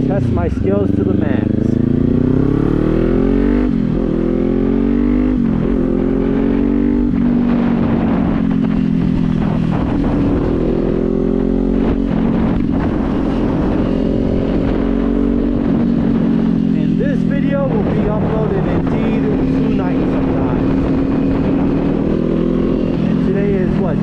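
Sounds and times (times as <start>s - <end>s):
motorcycle engine accelerating: 0.0s - 24.0s
wind rumble on microphone: 0.0s - 24.0s.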